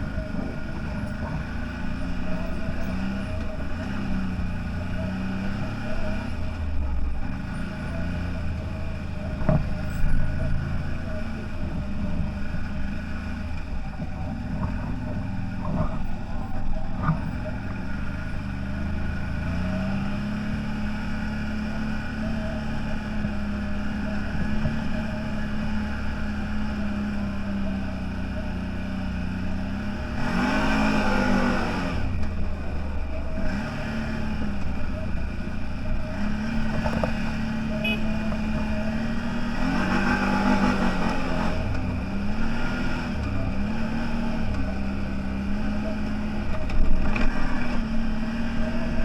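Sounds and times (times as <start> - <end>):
off-road vehicle engine running: 0.0 - 49.0.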